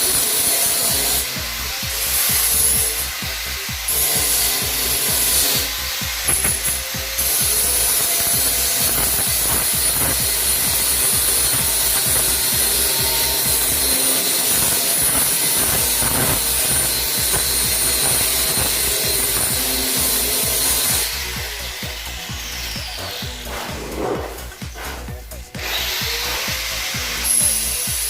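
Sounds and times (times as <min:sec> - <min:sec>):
electric power tool whining on wood: 0:00.0 - 0:28.0.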